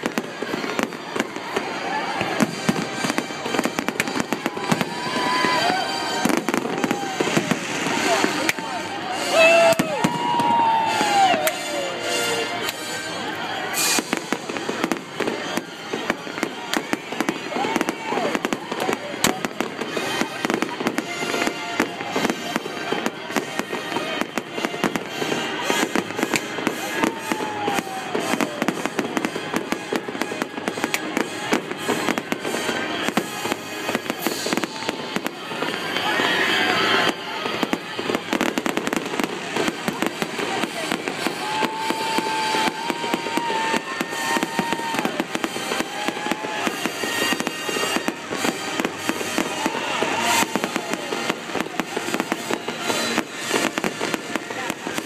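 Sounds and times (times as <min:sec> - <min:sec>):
fireworks banging and crackling: 0:00.0 - 0:55.0.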